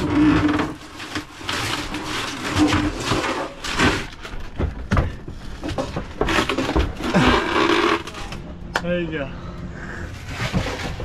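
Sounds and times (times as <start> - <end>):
knocks bumps and scraping: 0.0 - 8.4, 10.1 - 11.0.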